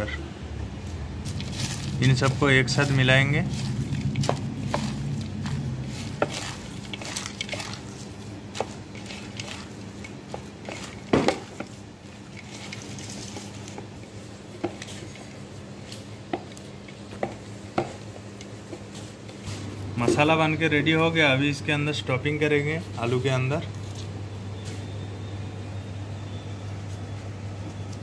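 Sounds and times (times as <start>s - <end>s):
low steady hum: 0.0s - 28.0s
hands mixing crunchy stuffing: 1.2s - 24.2s.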